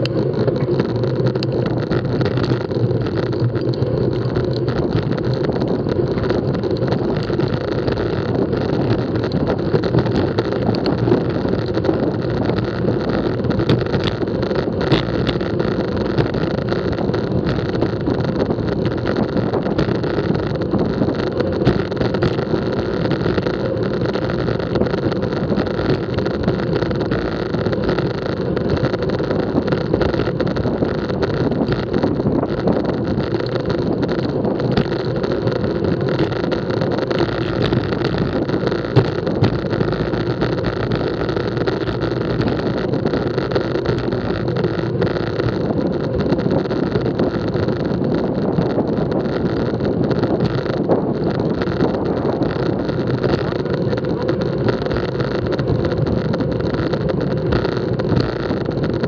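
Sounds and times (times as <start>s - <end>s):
bike tyres rolling on asphalt: 0.0s - 59.0s
wind on microphone: 0.0s - 59.0s.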